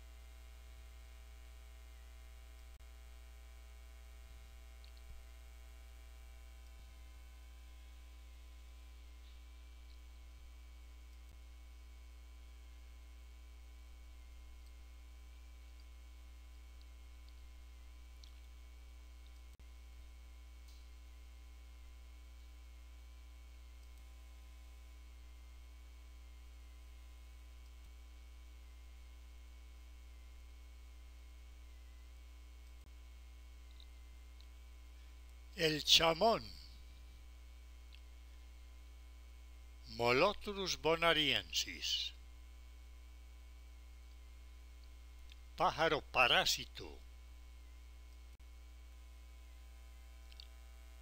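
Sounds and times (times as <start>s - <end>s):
faint wavering high whine: 0.0s - 51.0s
low electrical hum: 0.0s - 51.0s.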